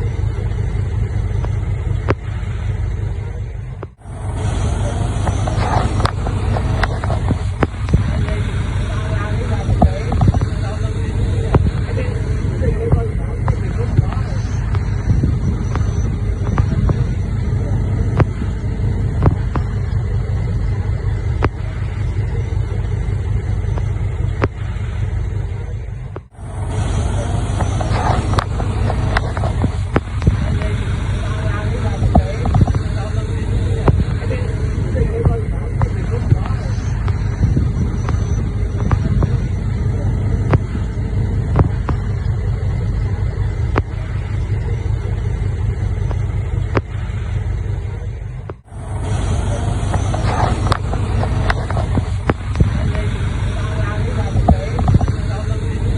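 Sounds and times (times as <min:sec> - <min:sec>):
heavy diesel machinery engine rumbling: 0:00.0 - 0:55.9.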